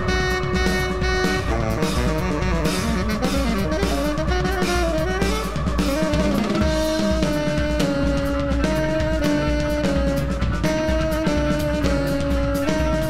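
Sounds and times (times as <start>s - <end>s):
busy drumming: 0.0s - 13.0s
double bass: 0.0s - 13.0s
saxophone playing: 0.0s - 13.0s.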